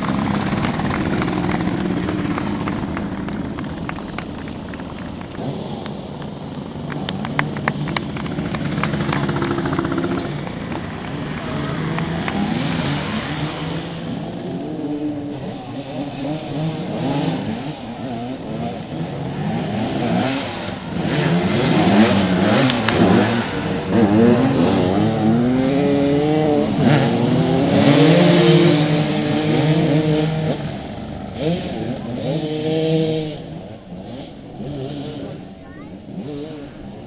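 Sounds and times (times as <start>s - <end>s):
motorcycles revving: 0.0s - 37.0s.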